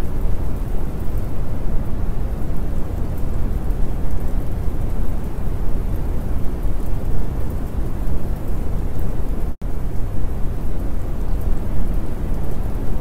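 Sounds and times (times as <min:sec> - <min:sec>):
heavy rain with low rumble: 0:00.0 - 0:13.0.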